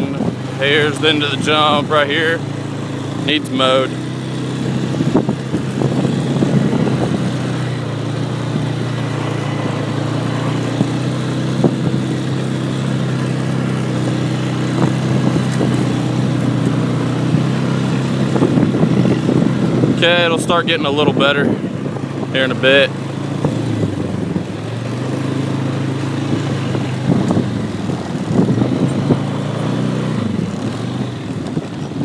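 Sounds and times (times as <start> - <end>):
atv engine running: 0.0 - 32.0.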